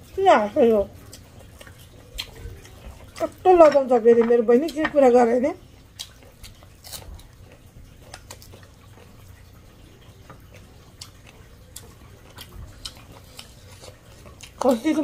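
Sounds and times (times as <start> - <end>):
chewing: 0.9 - 4.9, 5.6 - 15.0
fingers eating rice: 1.0 - 3.9, 5.8 - 15.0.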